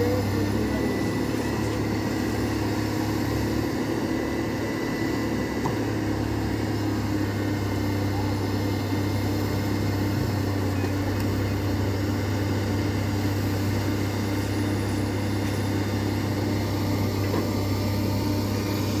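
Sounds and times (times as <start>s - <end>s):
heavy engine humming: 0.0s - 19.0s.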